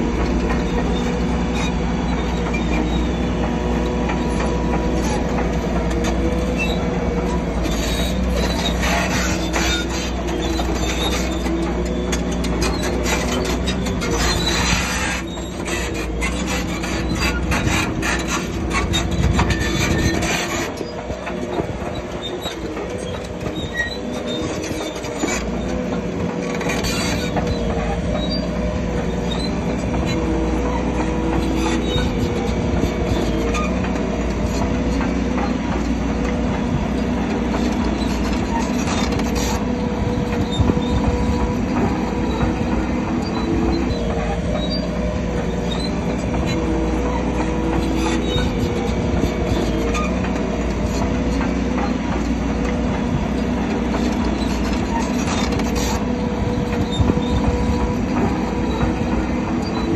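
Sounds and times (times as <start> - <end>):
bulldozer diesel engine running: 0.0 - 59.9
steel tracks squealing and clanking: 0.0 - 59.9
dense rattling clatter: 3.5 - 59.9.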